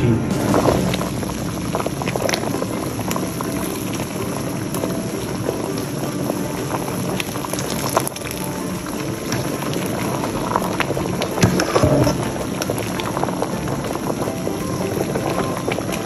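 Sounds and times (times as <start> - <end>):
syrup bubbling and popping: 0.3 - 16.0.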